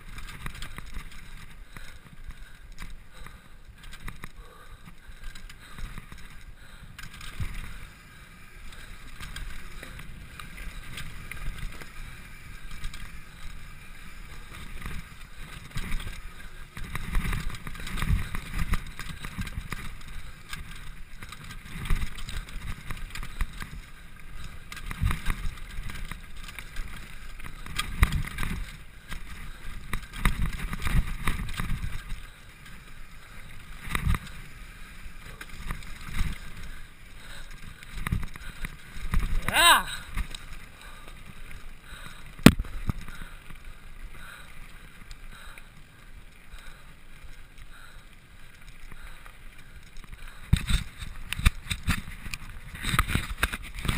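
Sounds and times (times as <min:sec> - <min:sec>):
bike rattling: 0:00.0 - 0:53.9
bike tyres rolling over dirt: 0:00.0 - 0:53.9.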